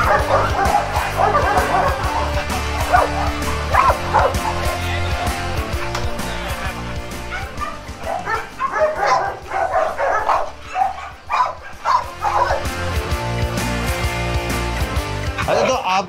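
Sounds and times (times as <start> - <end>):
dogs whining and yipping: 0.0 - 13.0
background music: 0.0 - 16.0.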